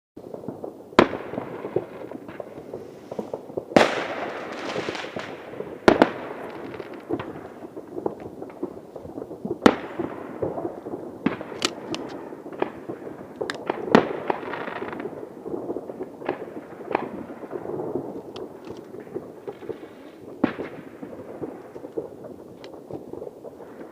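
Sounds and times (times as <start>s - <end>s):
firework bangs: 0.2s - 23.9s
fireworks crackling and popping: 0.2s - 23.9s.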